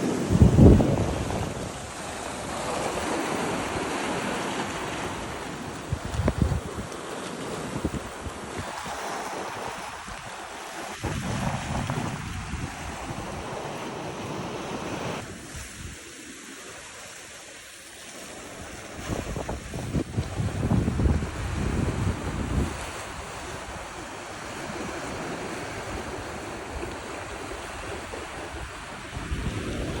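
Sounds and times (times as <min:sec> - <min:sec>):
wind buffeting microphone: 0:00.0 - 0:16.0, 0:18.6 - 0:30.0
ocean waves washing in: 0:00.0 - 0:30.0.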